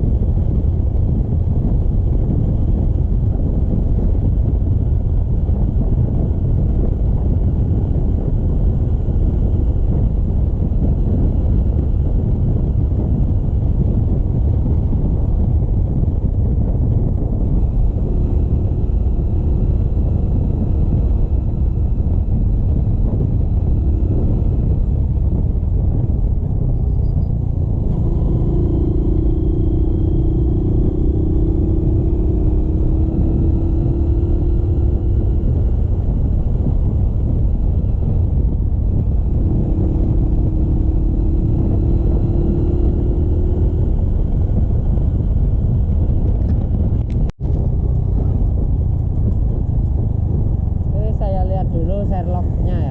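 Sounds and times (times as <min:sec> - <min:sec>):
wind on microphone: 0:00.0 - 0:52.9
motorcycle engine: 0:00.1 - 0:51.1.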